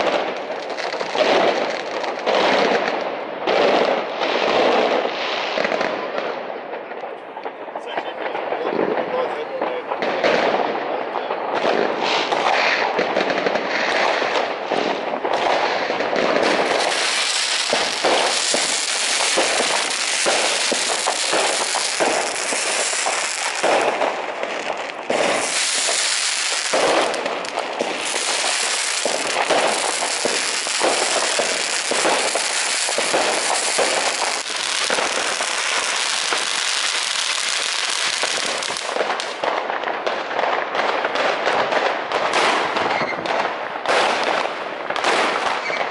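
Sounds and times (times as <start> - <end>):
fireworks crackling and banging: 0.0 - 45.9.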